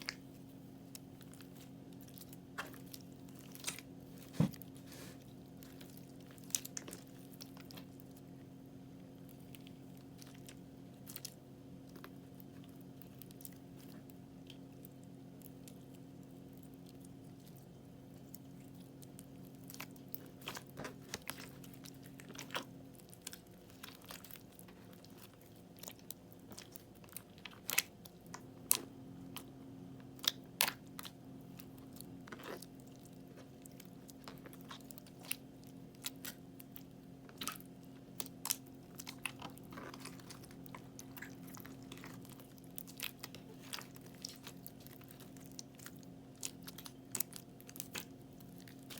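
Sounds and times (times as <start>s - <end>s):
steady low hum: 0.0s - 48.9s
slime crackling and crunching: 9.1s - 48.9s.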